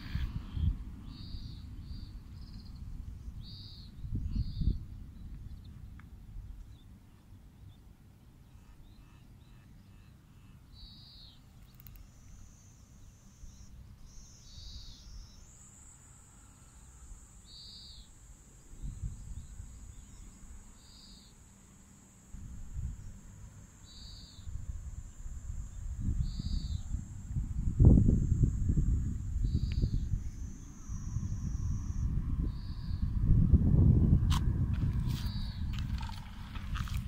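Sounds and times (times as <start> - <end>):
cicada buzzing drone: 0.0 - 5.3, 5.9 - 37.0.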